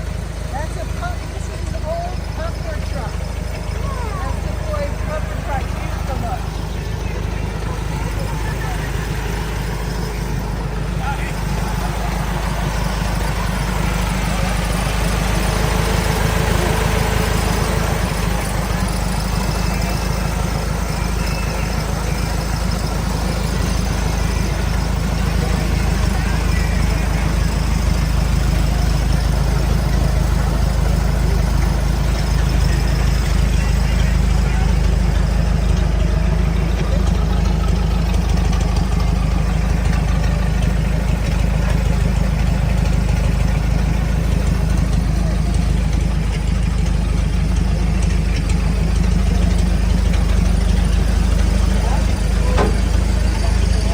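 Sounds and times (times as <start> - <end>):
people talking: 0.0 - 53.9
vehicle engine idling: 0.0 - 53.9.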